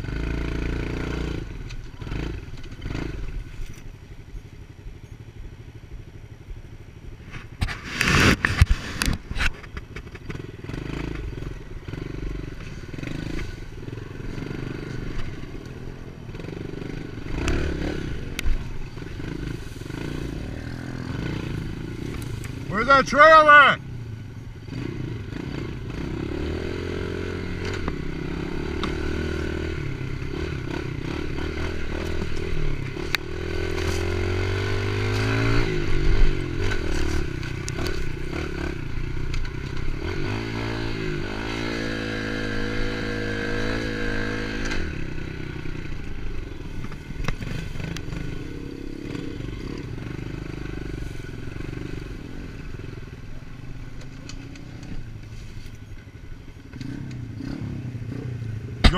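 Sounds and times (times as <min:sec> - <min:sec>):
small motorcycle engine revving: 0:00.0 - 0:58.9
bike rattling over rough ground: 0:00.2 - 0:06.4, 0:07.1 - 0:23.4, 0:24.2 - 0:58.2.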